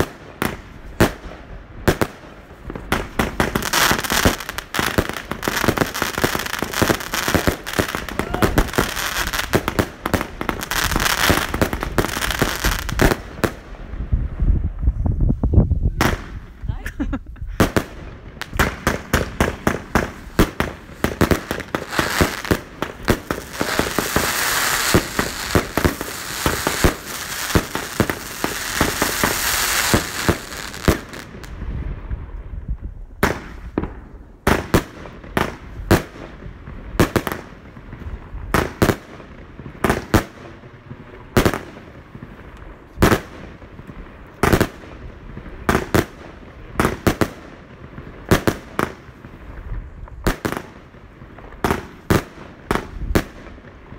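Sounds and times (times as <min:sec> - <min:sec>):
fireworks crackling barrage: 0:00.0 - 0:53.9.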